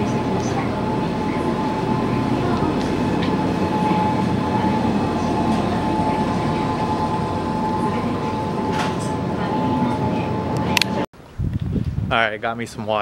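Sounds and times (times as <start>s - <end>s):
low rumbling store room noise: 0.0s - 13.0s.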